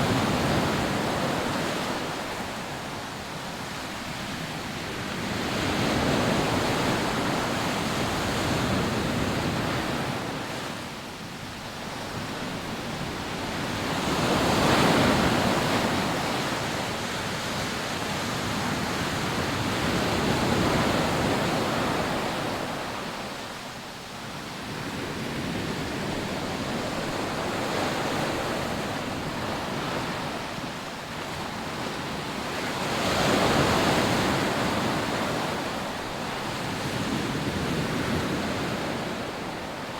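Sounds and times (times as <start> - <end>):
sea surf breaking on beach: 0.0 - 39.9.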